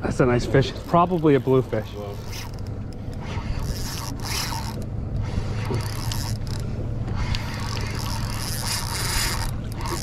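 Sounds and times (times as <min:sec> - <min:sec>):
steady low hum: 0:00.0 - 0:10.0
fishing reel whirring and clicking: 0:00.5 - 0:10.0.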